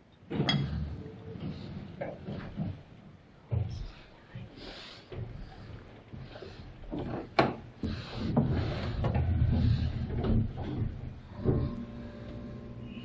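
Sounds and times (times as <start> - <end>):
elevator steady hum: 0.0 - 13.0.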